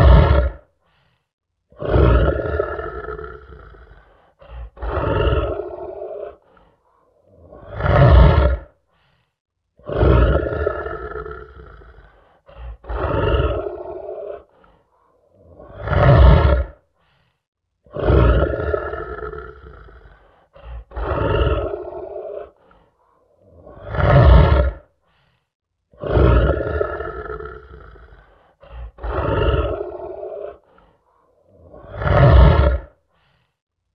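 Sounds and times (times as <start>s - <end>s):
lion roaring: 0.0s - 0.7s, 1.7s - 8.8s, 9.8s - 16.8s, 17.9s - 24.9s, 25.9s - 33.0s.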